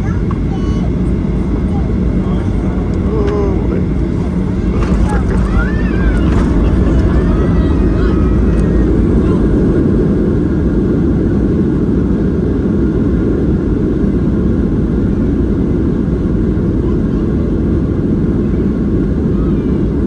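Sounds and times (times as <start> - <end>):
airplane cabin engine roar: 0.0 - 20.0.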